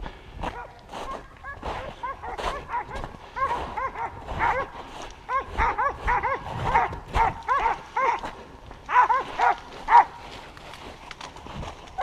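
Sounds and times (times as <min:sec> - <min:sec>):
dogs barking in high yelps: 0:00.4 - 0:10.4.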